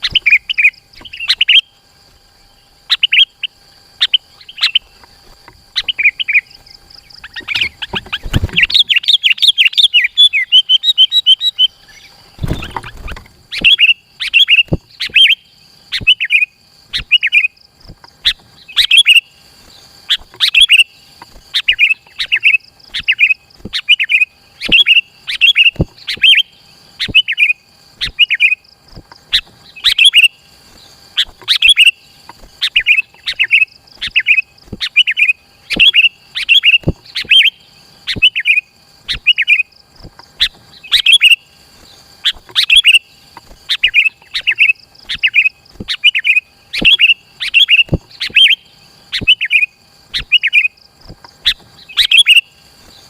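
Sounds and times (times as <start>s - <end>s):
bird calling in repeated phrases: 0.0s - 53.0s.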